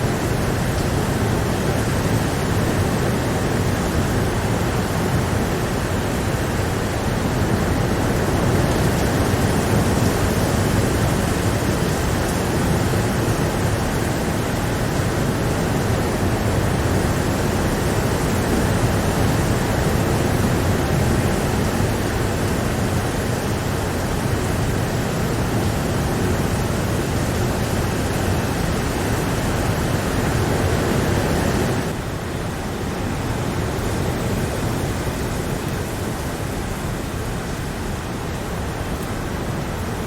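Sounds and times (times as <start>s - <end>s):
heavy rain: 0.0s - 40.0s.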